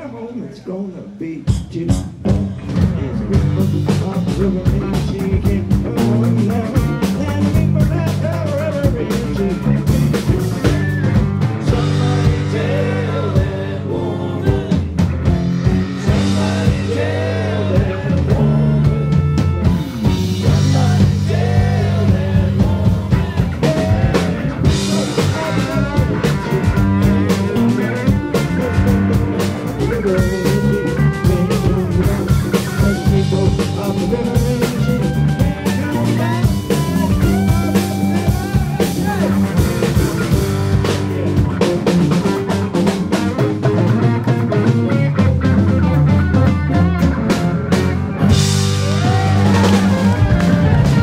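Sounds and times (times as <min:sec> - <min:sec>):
live rock band playing: 0:01.4 - 0:51.0
drum kit beat: 0:01.5 - 0:51.0
melodic lead guitar line: 0:02.3 - 0:51.0.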